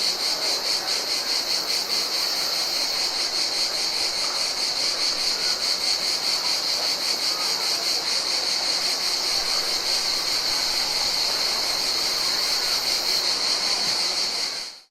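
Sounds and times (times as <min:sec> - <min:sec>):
insects trilling: 0:00.0 - 0:14.9.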